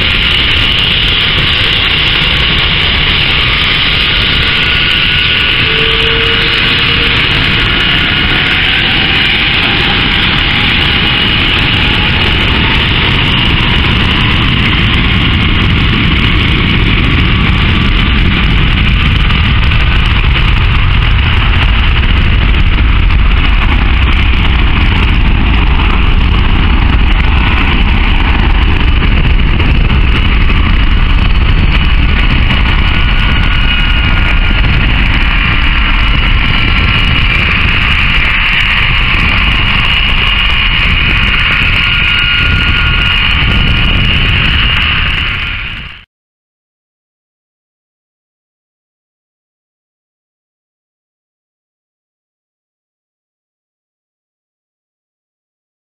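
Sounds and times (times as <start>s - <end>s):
jet engines roaring: 0.0s - 46.1s.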